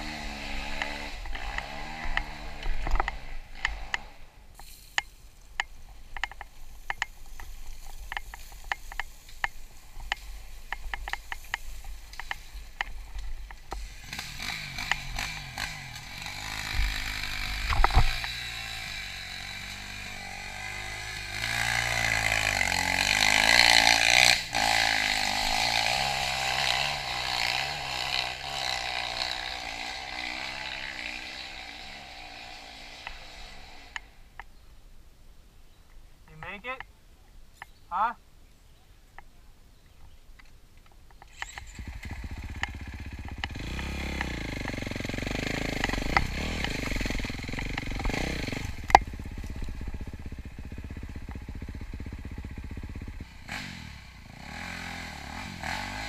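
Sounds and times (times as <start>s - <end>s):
dirt bike engine revving: 0.0s - 4.5s, 6.2s - 34.3s, 41.3s - 56.0s.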